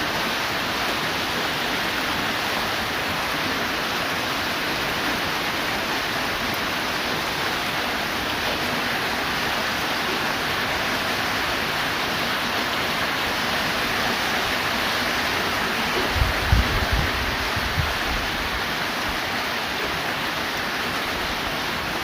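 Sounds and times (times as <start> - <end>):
heavy rain hissing: 0.0 - 22.0.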